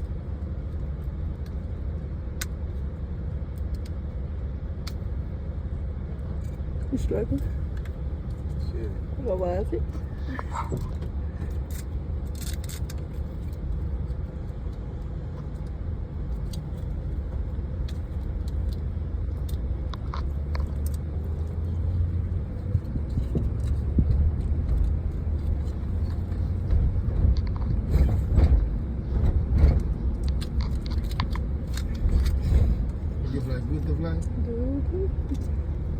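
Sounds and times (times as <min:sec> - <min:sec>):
car interior rumble: 0:00.0 - 0:35.9.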